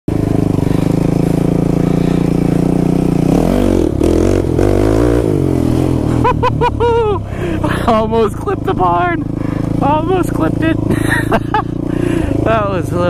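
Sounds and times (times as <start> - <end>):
quad engine revving: 0.1 - 13.0.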